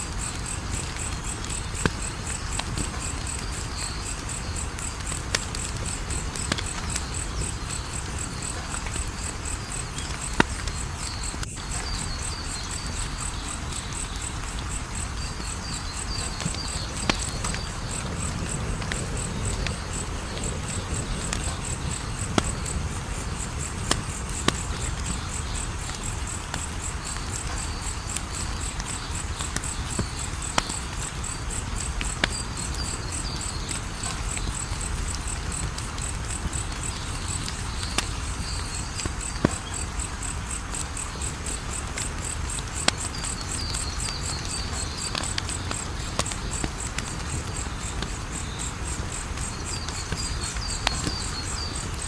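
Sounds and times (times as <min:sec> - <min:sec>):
high-pitched insect trill: 0:00.0 - 0:52.0
wood fire crackling and popping: 0:00.0 - 0:52.0.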